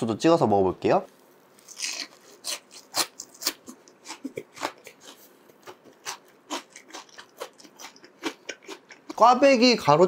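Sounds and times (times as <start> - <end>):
crunchy chewing: 1.4 - 10.0.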